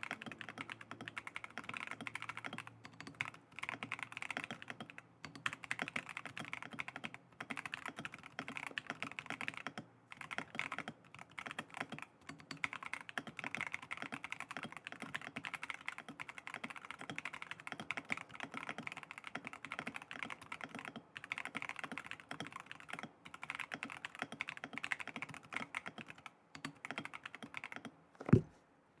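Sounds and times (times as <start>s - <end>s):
fast typing on mechanical keyboard: 0.0s - 28.0s.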